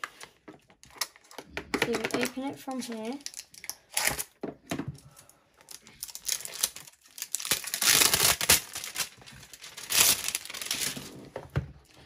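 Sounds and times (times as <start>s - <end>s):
packaging crinkling and tearing: 0.0s - 4.4s, 5.1s - 11.4s.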